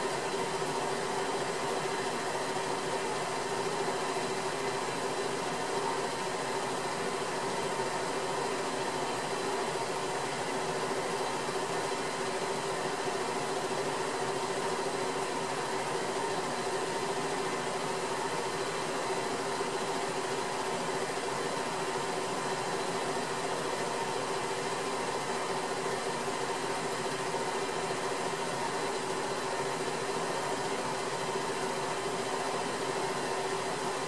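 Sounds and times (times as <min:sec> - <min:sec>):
small motor or fan humming: 0:00.0 - 0:34.0.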